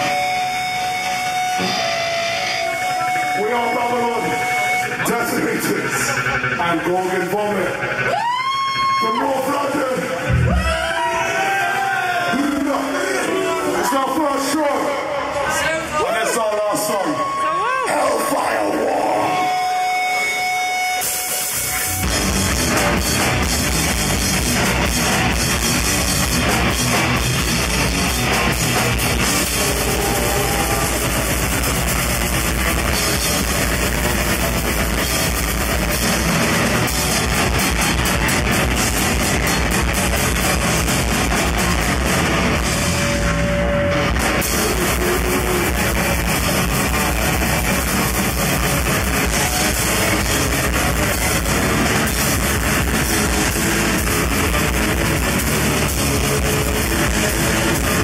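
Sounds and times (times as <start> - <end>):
death metal band playing live: 0.0 - 58.0.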